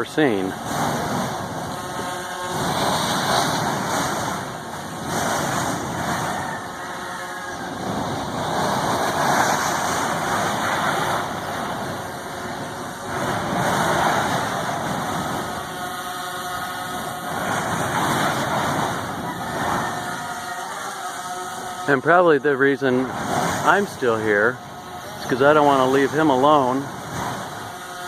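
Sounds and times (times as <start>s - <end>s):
lava fissure erupting with rushing roar: 0.0s - 28.0s.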